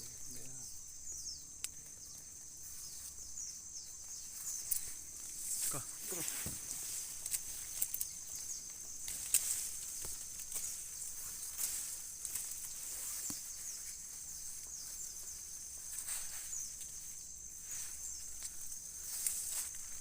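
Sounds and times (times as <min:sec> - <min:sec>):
birds chirping: 0:00.0 - 0:20.0
insect drone: 0:00.0 - 0:20.0.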